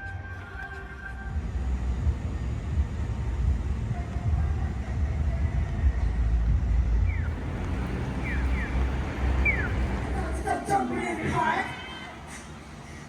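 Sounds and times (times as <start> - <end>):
low outdoor rumble: 0.4 - 13.0.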